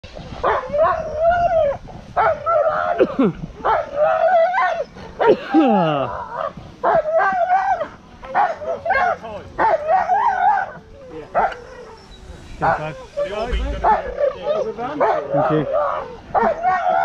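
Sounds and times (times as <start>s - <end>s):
sled dogs yelping and howling: 0.2s - 17.0s.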